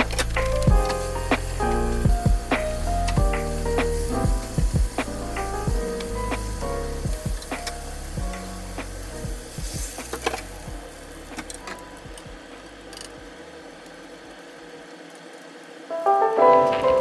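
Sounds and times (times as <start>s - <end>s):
soft background music: 0.0s - 14.7s, 15.9s - 17.0s.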